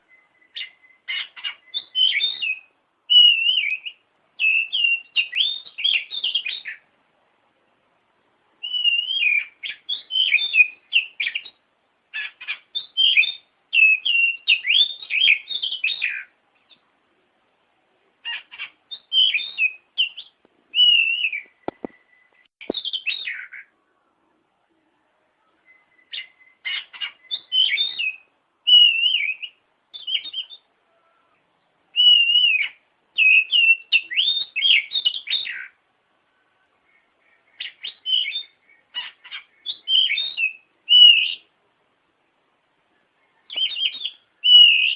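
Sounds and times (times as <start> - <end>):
bird song whistles: 0.0 - 6.8, 8.6 - 16.8, 18.2 - 23.7, 25.4 - 31.3, 31.9 - 35.8, 36.8 - 41.5, 43.2 - 44.9.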